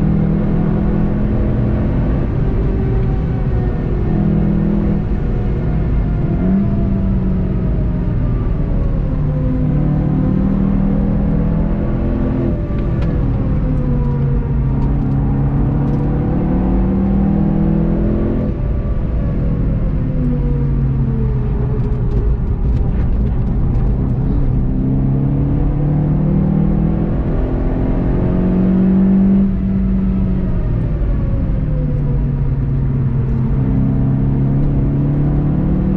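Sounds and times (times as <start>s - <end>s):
car engine accelerating hard: 0.0s - 35.9s.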